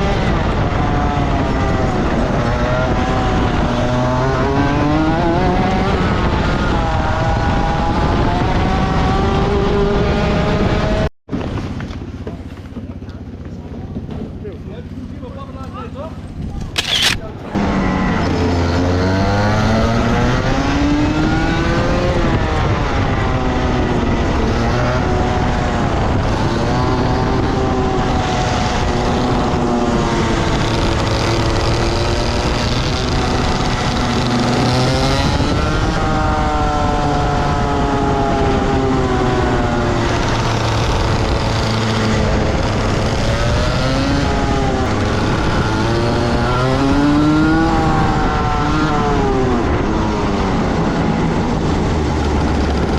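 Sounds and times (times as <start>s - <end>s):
two-stroke kart engine racing: 0.0s - 52.9s.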